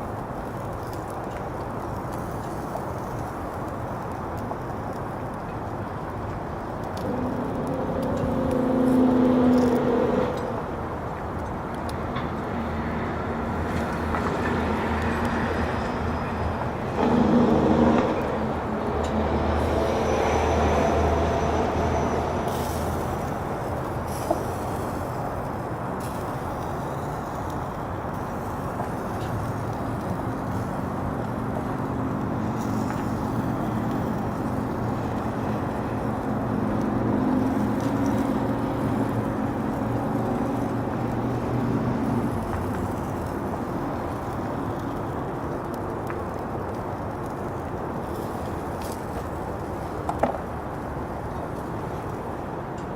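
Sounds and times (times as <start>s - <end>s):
low engine rumble: 0.0s - 52.9s.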